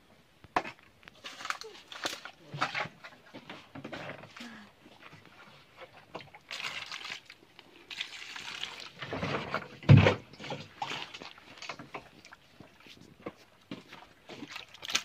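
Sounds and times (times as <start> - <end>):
water pouring and splashing: 1.2 - 15.0.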